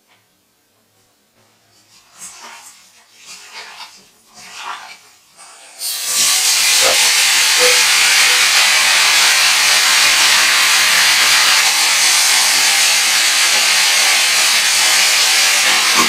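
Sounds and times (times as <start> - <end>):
wooden spatula rubbing against wok: 1.4 - 16.0
food sizzling in hot oil: 1.8 - 16.0.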